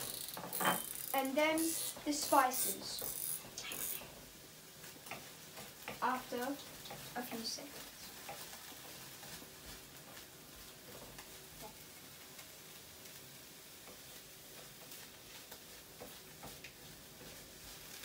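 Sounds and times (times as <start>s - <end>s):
onion and garlic sizzling in wok: 0.0s - 18.0s.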